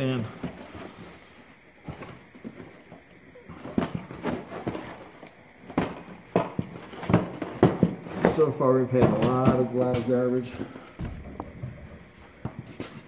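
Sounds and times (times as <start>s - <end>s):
cardboard rustling: 0.0s - 13.0s.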